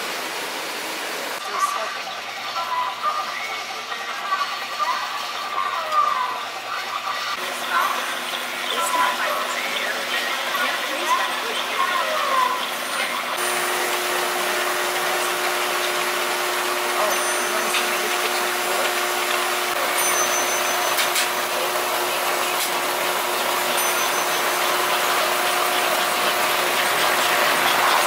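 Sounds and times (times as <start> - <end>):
toy trains whirring: 1.4 - 28.0.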